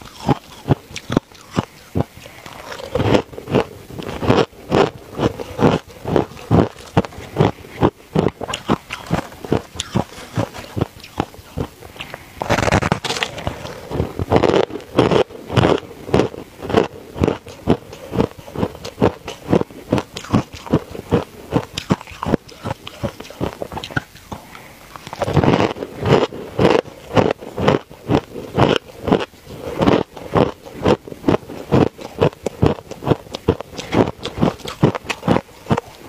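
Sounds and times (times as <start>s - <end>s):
ice being crunched by teeth: 0.0s - 36.0s.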